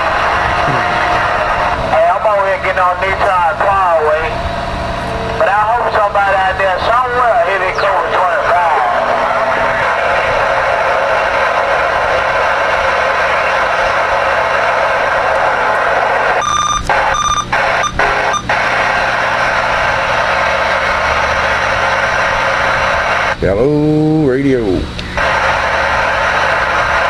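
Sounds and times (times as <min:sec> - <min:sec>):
radio static hiss: 0:00.6 - 0:04.3, 0:05.4 - 0:09.0, 0:09.6 - 0:23.5, 0:25.0 - 0:27.0.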